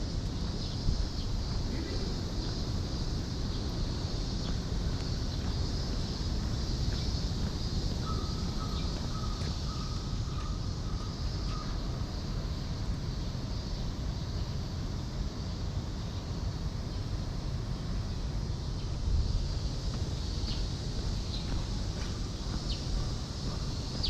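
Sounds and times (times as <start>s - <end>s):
cicadas buzzing: 0.0s - 24.0s
distant traffic: 0.0s - 24.0s
wind: 0.0s - 24.0s.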